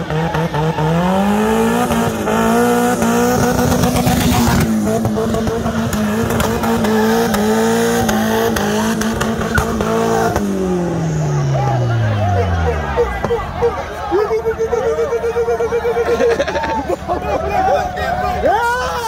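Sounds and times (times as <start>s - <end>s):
car engine revving high: 0.0s - 16.6s.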